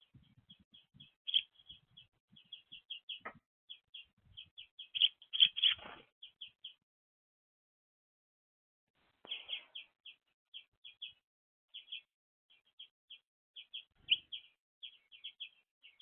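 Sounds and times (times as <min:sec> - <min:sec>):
songbirds chirping: 0:00.0 - 0:06.8, 0:09.0 - 0:16.0.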